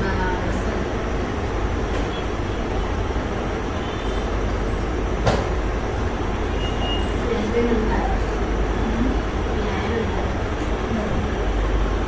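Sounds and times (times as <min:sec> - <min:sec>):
low mechanical noise: 0:00.0 - 0:12.0.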